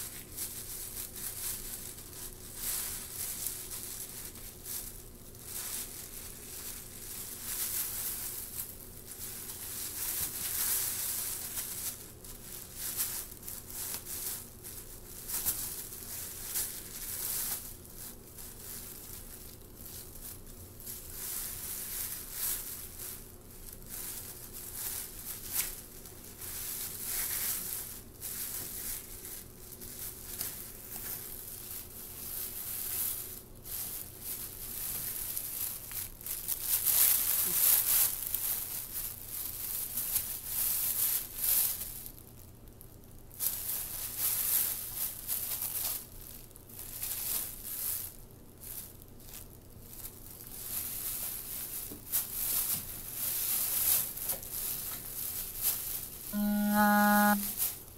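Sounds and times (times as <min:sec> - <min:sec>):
plastic bag crinkling: 0:00.0 - 0:56.3.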